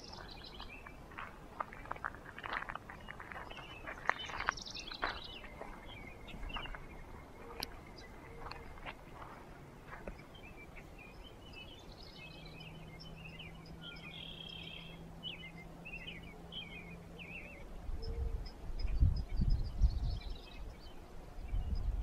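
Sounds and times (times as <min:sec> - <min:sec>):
faint low hum: 0:00.0 - 0:22.0
songbirds chirping: 0:00.0 - 0:22.0.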